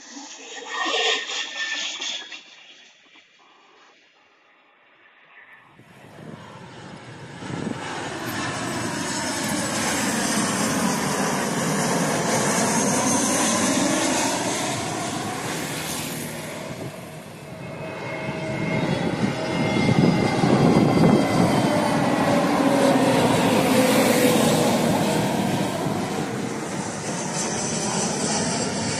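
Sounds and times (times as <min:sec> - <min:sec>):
jet airliner passing overhead: 0:00.0 - 0:28.9.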